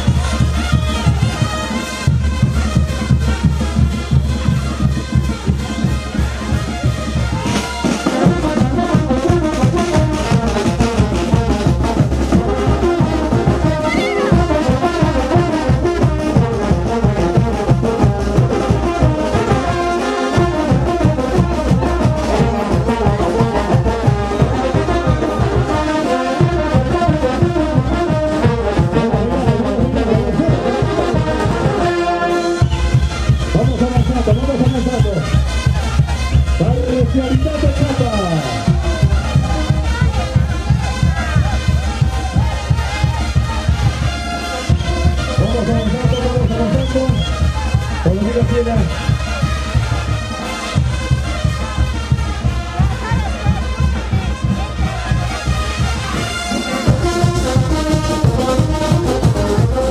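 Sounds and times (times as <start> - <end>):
brass band dance music: 0.0 - 59.9
steady drum beat: 0.0 - 59.9.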